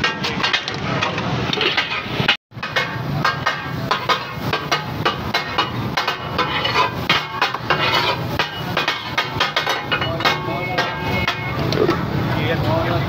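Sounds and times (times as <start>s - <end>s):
metal spatulas clanking on griddle: 0.0s - 12.2s.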